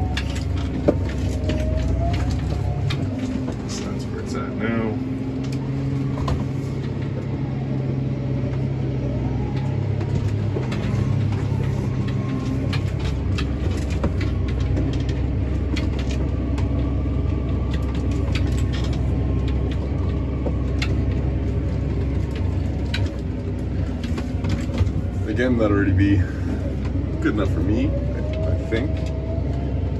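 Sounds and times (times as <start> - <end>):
tractor engine rumbling: 0.0 - 29.9.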